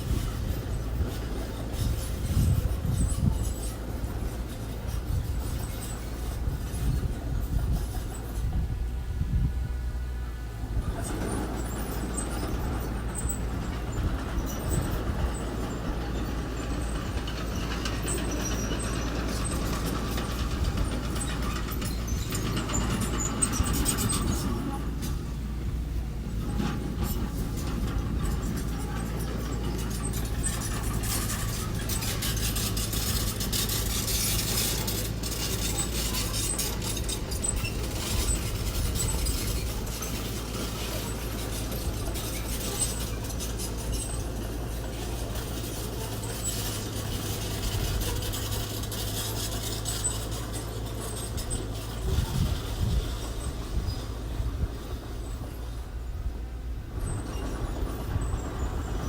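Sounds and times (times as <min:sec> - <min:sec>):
earthmoving machine engine running: 0:00.0 - 0:59.0.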